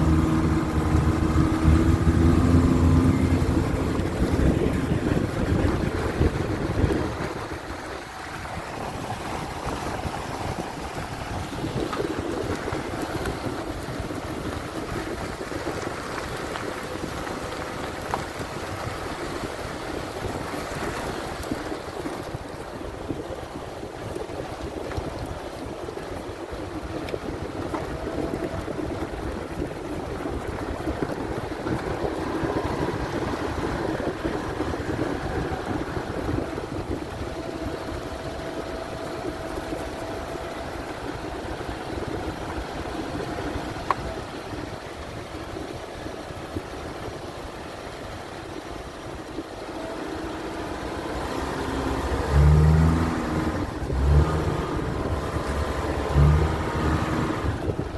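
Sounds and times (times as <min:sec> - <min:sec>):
car engine running: 0:00.0 - 0:57.9
tyre and road noise: 0:00.0 - 0:57.9.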